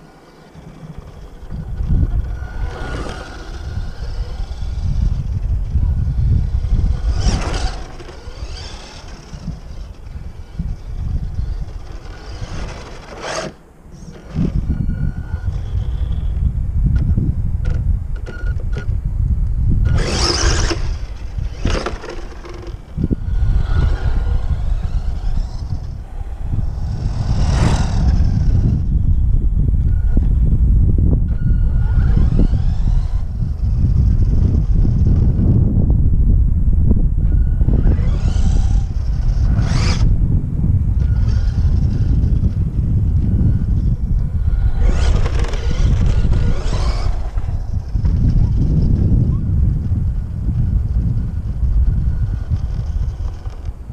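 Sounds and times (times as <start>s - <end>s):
hissing tyre and motor noise: 0.0s - 18.6s, 19.7s - 35.9s, 37.2s - 53.9s
radio-controlled car driving: 0.0s - 35.9s, 36.8s - 53.9s
faint thin whine: 0.0s - 53.9s
wind rumble on microphone: 0.0s - 53.9s.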